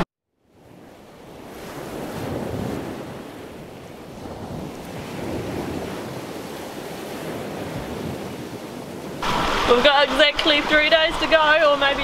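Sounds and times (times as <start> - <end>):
wind buffeting microphone: 0.6 - 12.0
water rushing past hull: 1.3 - 12.0.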